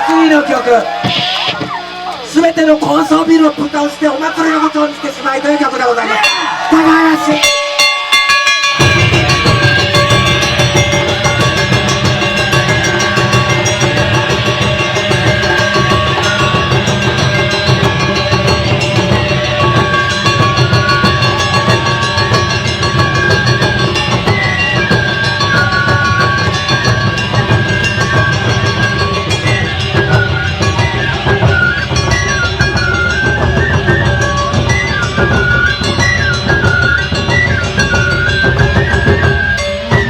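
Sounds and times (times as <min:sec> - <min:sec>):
high held-note melody: 0:03.2 - 0:40.0
taiko drums playing fast beat: 0:06.1 - 0:40.0.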